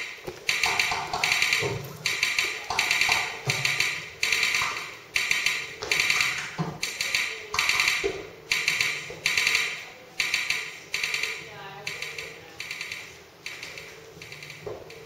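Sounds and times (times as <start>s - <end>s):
clusters of rapid clicks: 0.0s - 15.0s.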